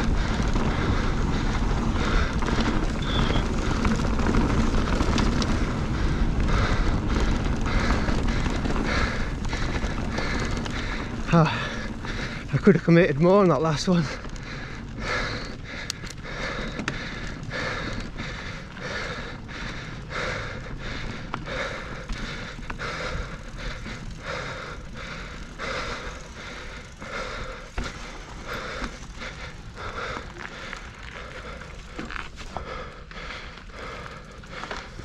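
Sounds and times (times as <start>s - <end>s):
person panting hard: 0.0s - 35.0s
tyres rolling on gravel: 0.0s - 35.0s.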